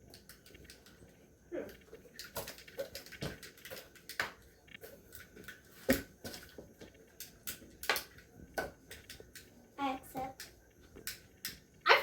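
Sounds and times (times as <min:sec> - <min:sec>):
plastic toys clicking and tapping: 0:00.0 - 0:12.0.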